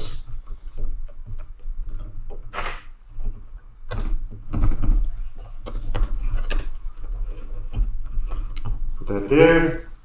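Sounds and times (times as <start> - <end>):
plastic and metal clicks and knocks: 0.4 - 9.1.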